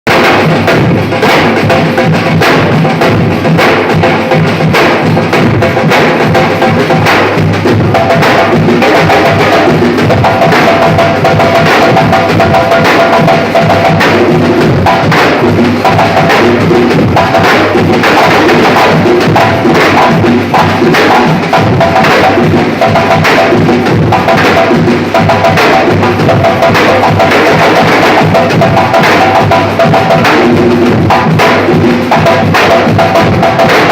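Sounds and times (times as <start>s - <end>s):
deep bass drums: 0.1s - 33.9s
sharp wood-block-like strikes: 0.1s - 33.9s
snare-like drums: 0.1s - 33.9s.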